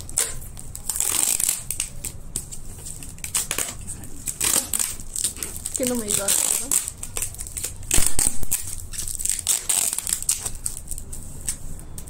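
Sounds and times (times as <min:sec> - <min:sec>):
plastic wrap and tape crinkling: 0:00.0 - 0:12.0.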